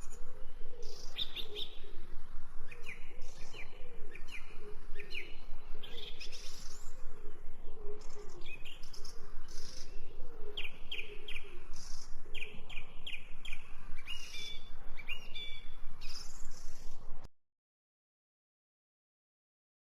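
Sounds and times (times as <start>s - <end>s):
fainter lower bird calls: 0.0s - 17.0s
birds chirping and twittering: 0.0s - 17.3s.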